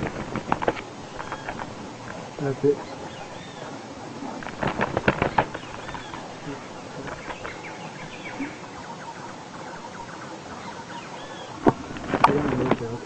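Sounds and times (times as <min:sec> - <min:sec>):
faint bird chirps: 0:01.1 - 0:12.2.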